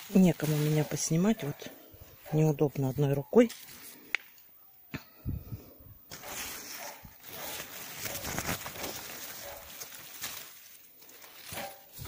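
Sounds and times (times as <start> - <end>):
leaves and canes rustling: 0.0 - 12.0.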